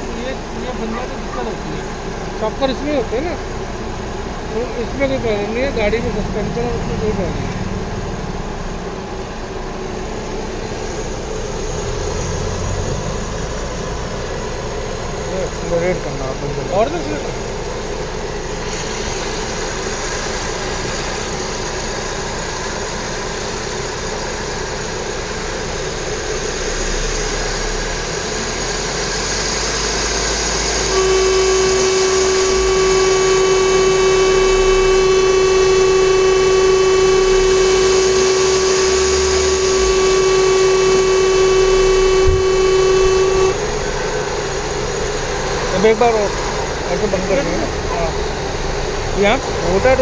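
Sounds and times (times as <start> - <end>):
car engine revving: 0.0 - 23.2, 25.7 - 50.0
steady high whine: 0.0 - 50.0.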